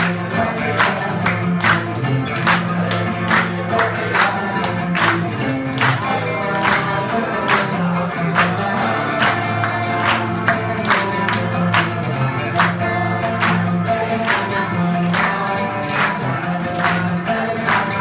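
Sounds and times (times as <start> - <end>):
acoustic guitars: 0.0 - 18.0
men singing together: 0.0 - 18.0
people clapping in time: 0.0 - 18.0.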